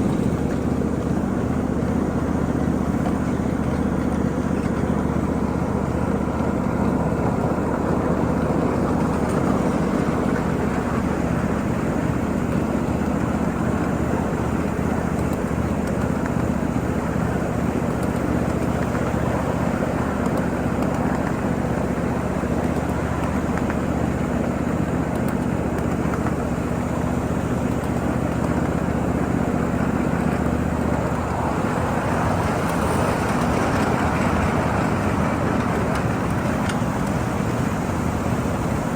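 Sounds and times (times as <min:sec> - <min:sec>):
locomotive low hum: 0:00.0 - 0:38.9
wheels rumbling on rails: 0:00.0 - 0:38.9.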